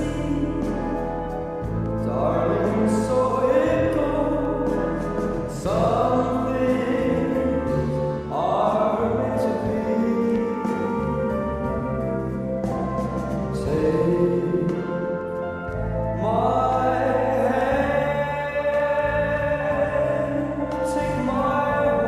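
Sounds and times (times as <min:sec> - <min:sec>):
muffled oldies song with singing: 0:00.0 - 0:22.0.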